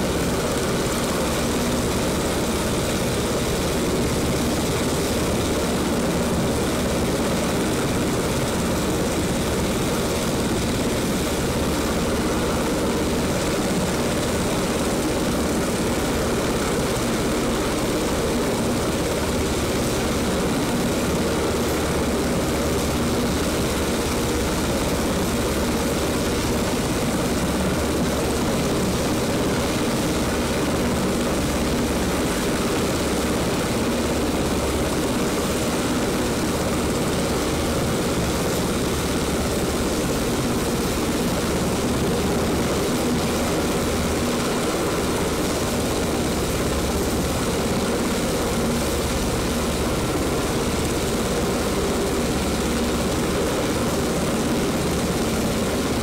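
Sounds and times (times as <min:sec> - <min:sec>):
helicopter running: 0:00.0 - 0:56.0.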